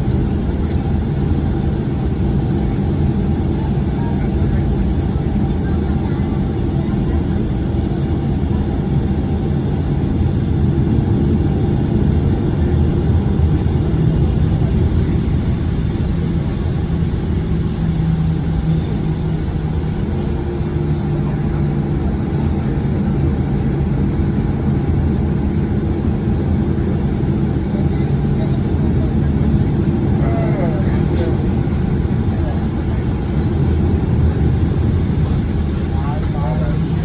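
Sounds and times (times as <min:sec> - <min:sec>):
aircraft cabin engine hum: 0:00.0 - 0:37.0.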